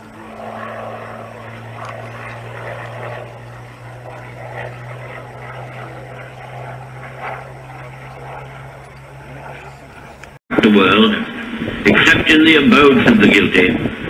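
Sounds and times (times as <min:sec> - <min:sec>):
distant propeller planes droning: 0:00.0 - 0:14.0.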